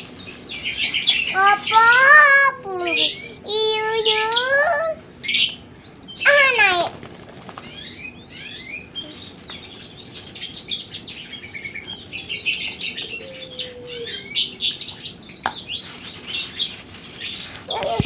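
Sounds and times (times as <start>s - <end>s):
young dove begging chirps: 0.0s - 18.0s.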